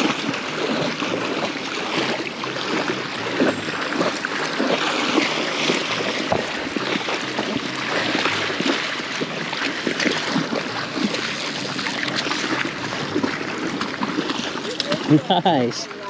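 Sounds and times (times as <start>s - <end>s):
river current rushing: 0.0s - 16.0s
small water splashes: 0.0s - 16.0s.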